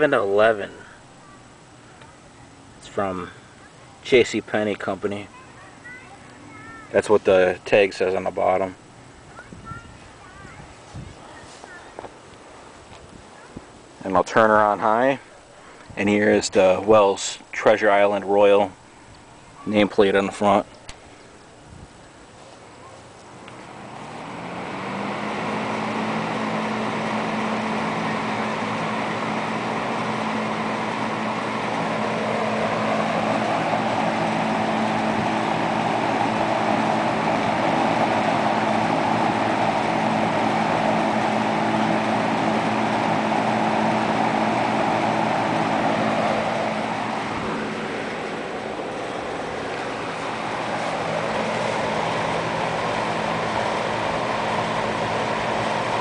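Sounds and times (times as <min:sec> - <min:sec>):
fan motor hum: 0:00.0 - 0:56.0
rush of air from fan: 0:00.0 - 0:56.0.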